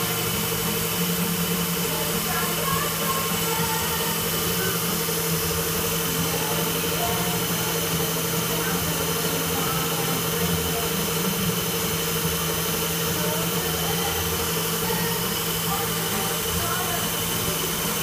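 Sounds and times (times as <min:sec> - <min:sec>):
tool post grinder whining: 0:00.0 - 0:18.0.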